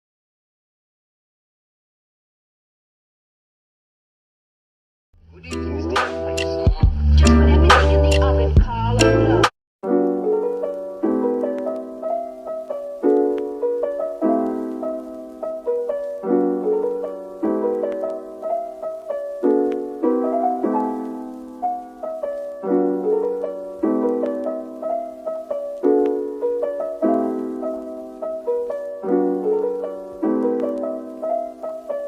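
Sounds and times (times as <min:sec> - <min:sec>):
gentle piano chords: 0:05.4 - 0:32.0.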